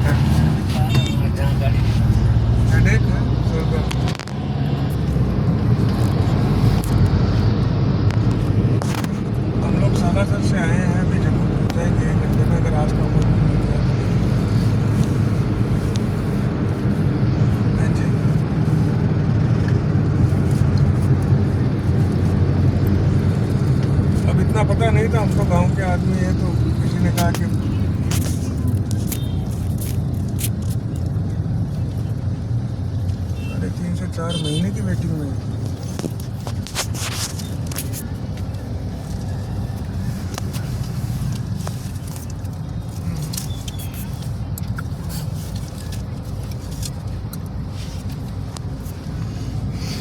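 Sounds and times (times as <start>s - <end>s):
vehicle engine drone: 0.0s - 50.0s.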